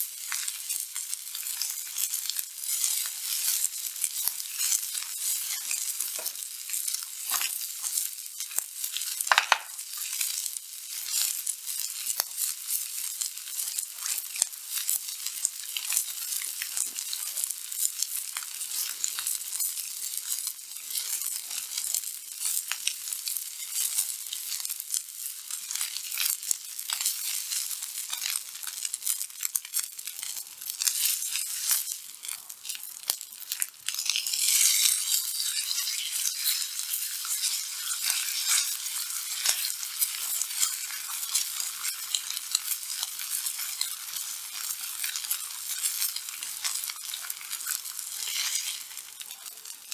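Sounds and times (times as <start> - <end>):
steak sizzling on iron griddle: 0.0 - 49.9.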